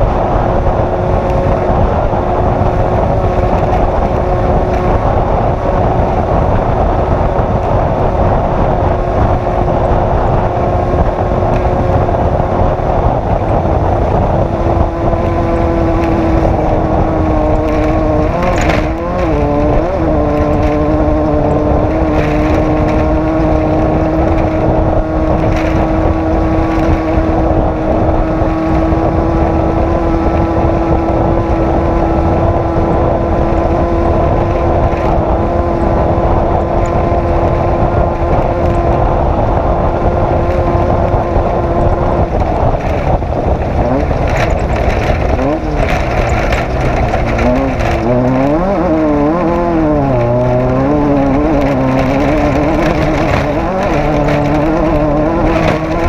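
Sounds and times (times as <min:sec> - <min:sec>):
race vehicle engine running hard: 0:00.0 - 0:56.0.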